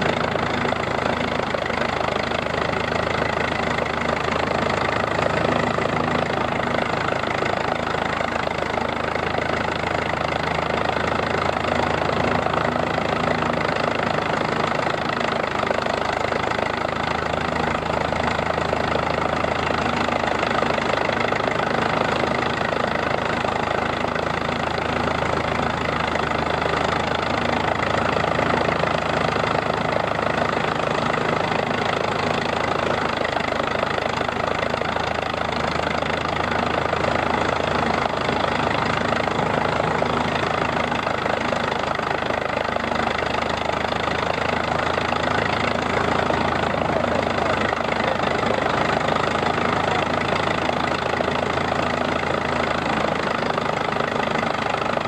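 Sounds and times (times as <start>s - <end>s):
threshing machine running: 0.0s - 55.0s
tractor engine running: 0.0s - 55.0s.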